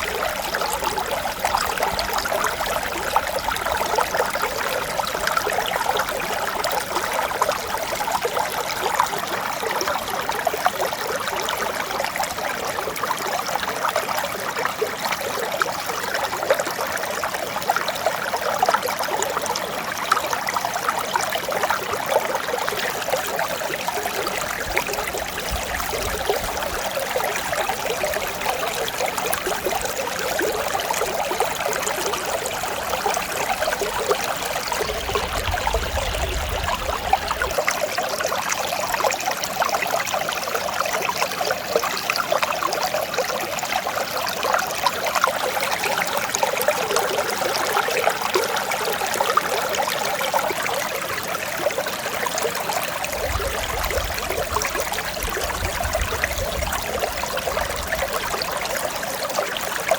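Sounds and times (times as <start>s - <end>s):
stream splashing over rocks: 0.0s - 59.9s.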